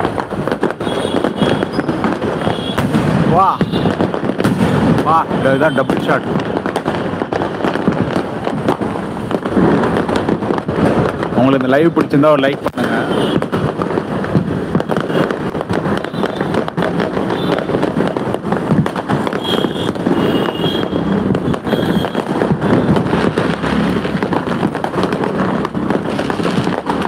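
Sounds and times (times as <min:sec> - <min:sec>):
fireworks and firecrackers banging: 0:00.0 - 0:27.0.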